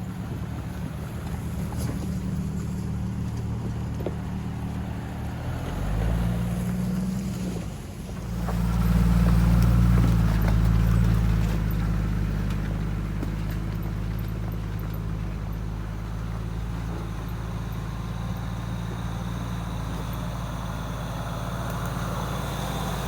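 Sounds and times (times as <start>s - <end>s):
car engine under load: 0.0s - 23.0s.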